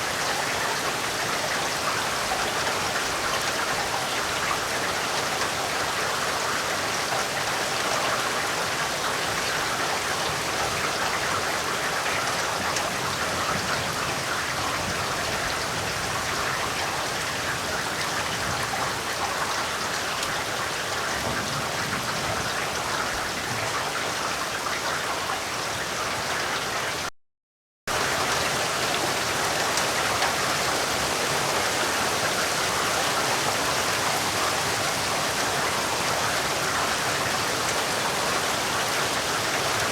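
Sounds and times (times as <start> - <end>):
heavy rain: 0.0 - 27.1, 27.9 - 39.9.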